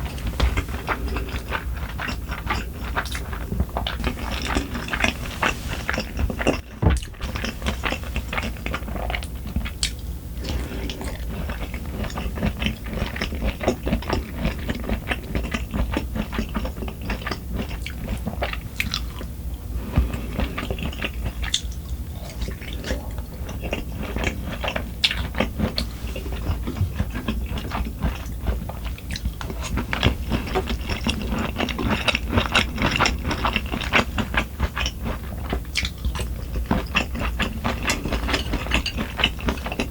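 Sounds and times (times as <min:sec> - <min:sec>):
crunchy chewing: 0:00.0 - 0:39.9
steady low hum: 0:00.0 - 0:39.9.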